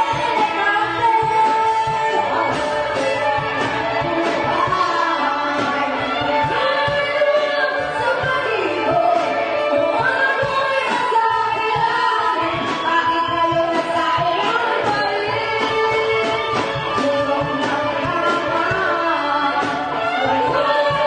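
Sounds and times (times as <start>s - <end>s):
drum beat: 0.0s - 21.0s
electric guitar: 0.0s - 21.0s
women singing: 0.0s - 21.0s.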